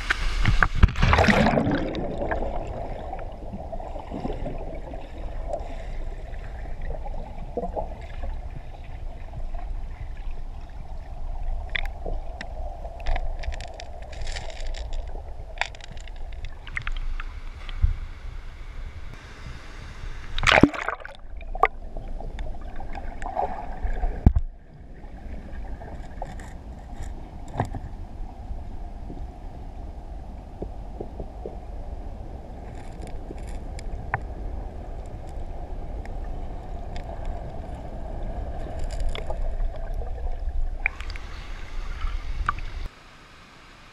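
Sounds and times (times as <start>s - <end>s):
underwater rush of water: 0.0s - 28.5s, 30.9s - 43.9s.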